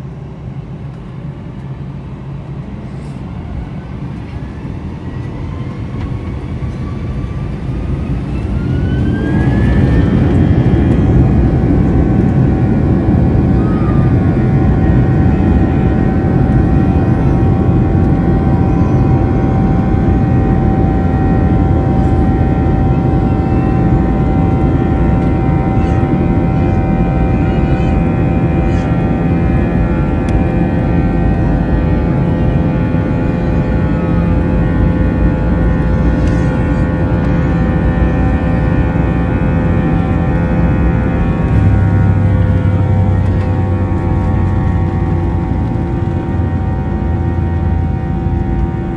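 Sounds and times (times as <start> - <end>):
jet engines spooling up: 0.5 - 27.4, 28.0 - 48.9.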